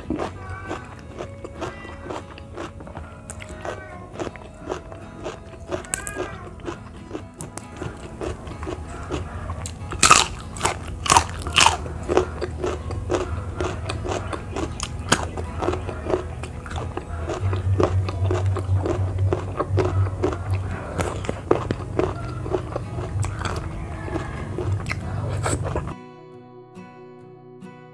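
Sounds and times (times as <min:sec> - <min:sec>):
crunchy chewing: 0:00.0 - 0:26.0.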